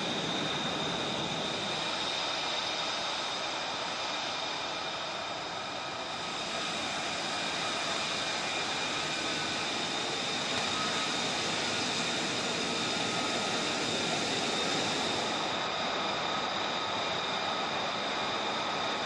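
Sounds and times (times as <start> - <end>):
jet engine running: 0.0 - 19.0.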